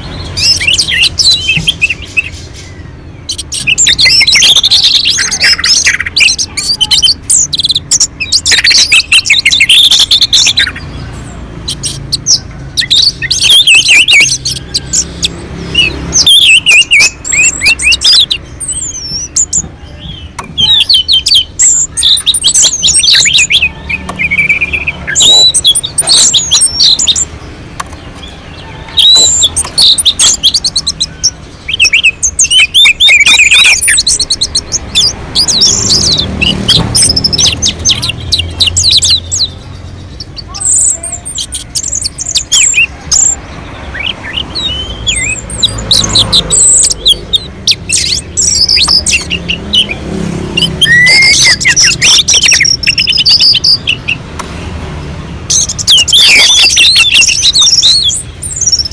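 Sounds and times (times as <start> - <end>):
thrush singing: 0.0 - 58.9.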